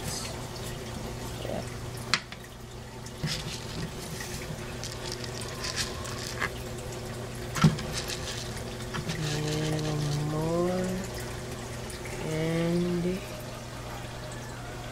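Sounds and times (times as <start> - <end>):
filter low hum: 0.0 - 14.9
water trickling and splashing: 0.0 - 14.9.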